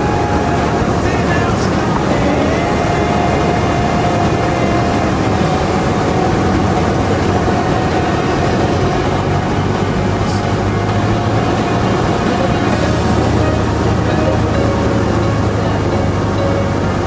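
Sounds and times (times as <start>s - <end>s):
airflow noise: 0.0s - 17.0s
light aircraft engine droning: 0.0s - 17.0s.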